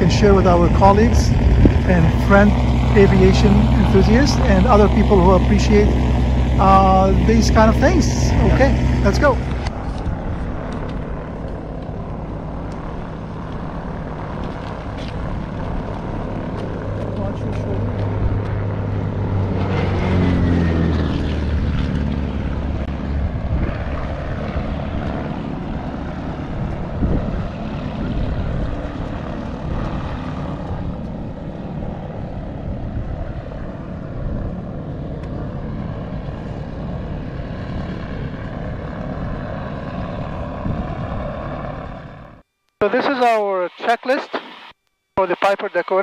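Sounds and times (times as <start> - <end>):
light aircraft engine droning: 0.0 - 46.0.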